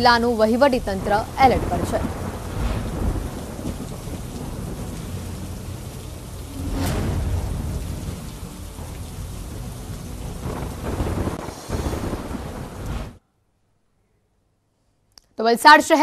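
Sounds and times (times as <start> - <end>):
heavy rain hissing: 0.0 - 13.2
thunder crack: 0.0 - 13.2
thunder rumbling: 0.0 - 13.2.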